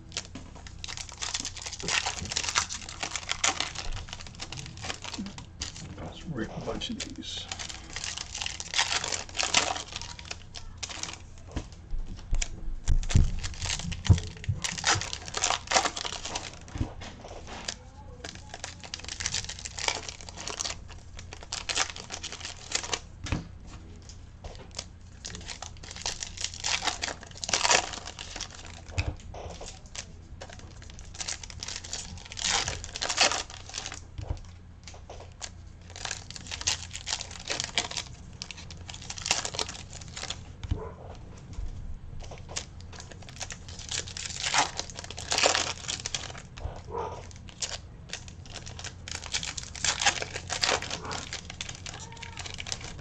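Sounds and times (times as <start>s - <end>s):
foil wrappers tearing and crinkling: 0.0s - 23.1s, 24.0s - 40.6s, 42.2s - 53.0s.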